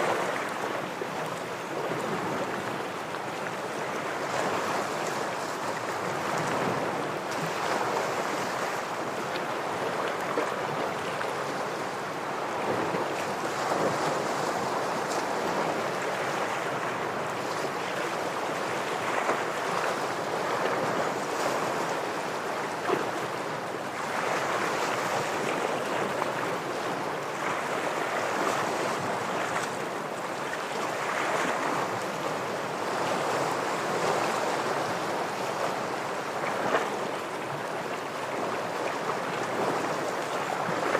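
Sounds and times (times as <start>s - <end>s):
surf washing against rocks: 0.0s - 40.9s.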